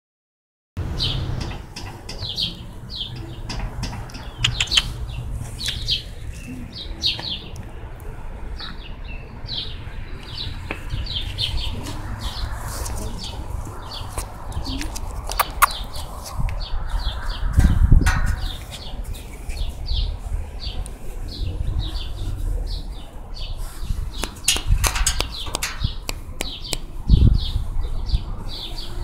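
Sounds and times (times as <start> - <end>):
small birds chirping: 1.0 - 7.7, 8.6 - 29.0.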